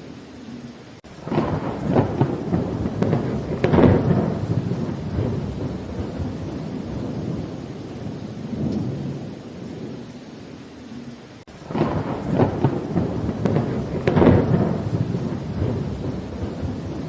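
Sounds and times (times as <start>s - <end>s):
steady rain: 0.0s - 17.0s
thunderclap: 1.2s - 10.0s, 11.6s - 17.0s.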